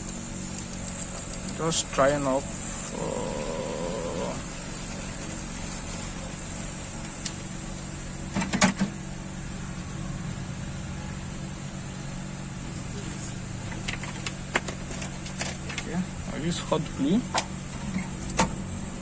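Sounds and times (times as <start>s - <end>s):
hot air blower running: 0.0s - 19.0s.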